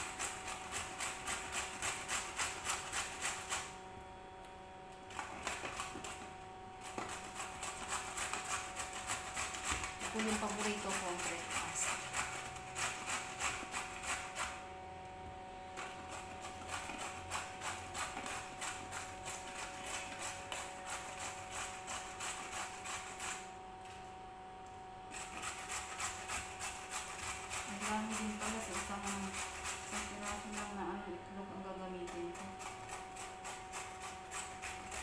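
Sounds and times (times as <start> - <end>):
carrot grating on metal grater: 0.0 - 3.8, 5.1 - 14.6, 15.8 - 23.5, 25.1 - 35.0.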